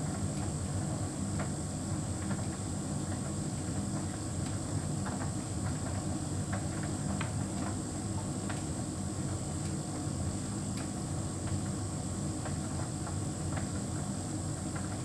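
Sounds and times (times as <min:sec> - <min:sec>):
tumble dryer humming with high whine: 0:00.0 - 0:15.0.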